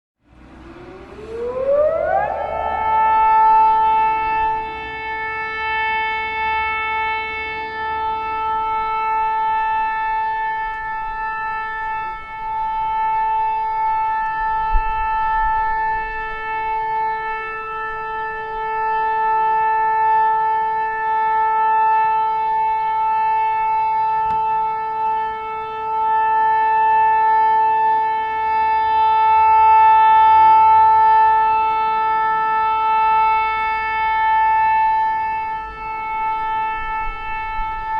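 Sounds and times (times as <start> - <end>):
steady siren tone: 0.2 - 37.9.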